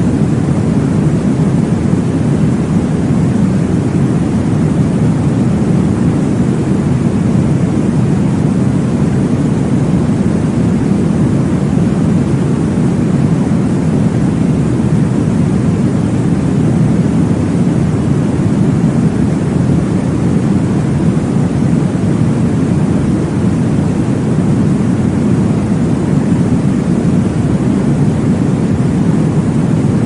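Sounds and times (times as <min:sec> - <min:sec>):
deep whooshing white noise: 0:00.0 - 0:30.0.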